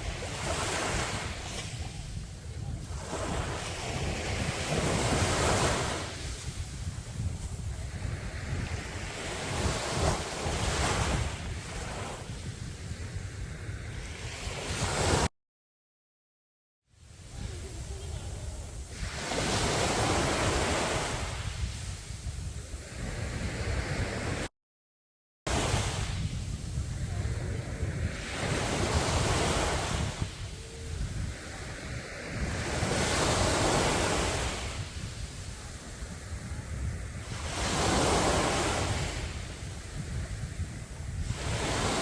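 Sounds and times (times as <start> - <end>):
waves breaking on beach: 0.0 - 15.3, 17.0 - 24.5, 25.5 - 42.0.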